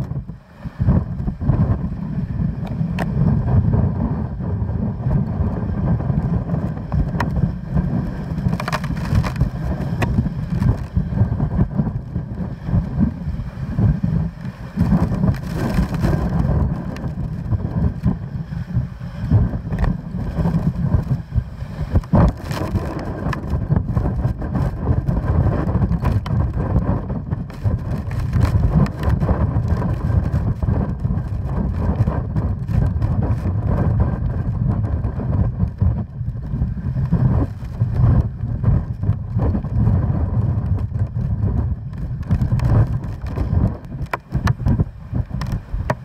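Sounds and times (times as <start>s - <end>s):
strong wind buffeting microphone: 0.0s - 46.0s.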